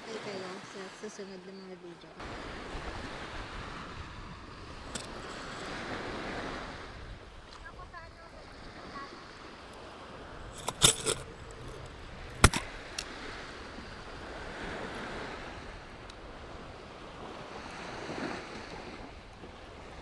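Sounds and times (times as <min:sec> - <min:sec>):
small waves washing onto beach: 0:00.0 - 0:20.0
wind: 0:00.0 - 0:20.0.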